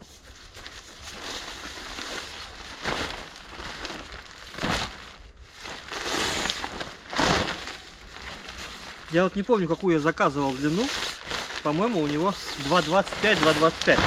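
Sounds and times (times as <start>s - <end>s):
tarp rustling and crinkling: 0.0s - 14.0s
tarp swishes: 2.7s - 14.0s.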